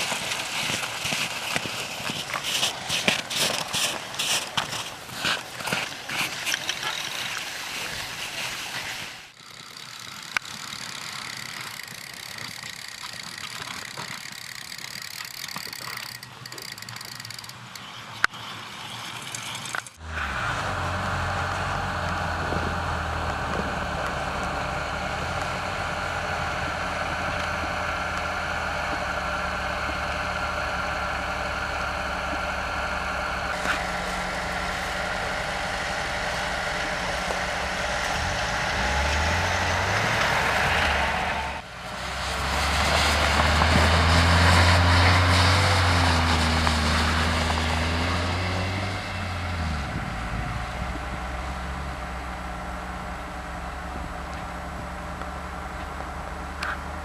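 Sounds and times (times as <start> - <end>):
vehicle engine running: 9.3 - 17.8, 19.6 - 57.0.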